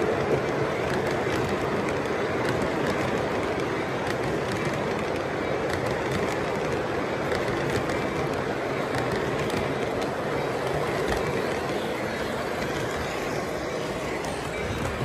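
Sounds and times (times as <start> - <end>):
model locomotive passing: 0.0 - 15.0
model train wheels rumbling: 0.0 - 15.0.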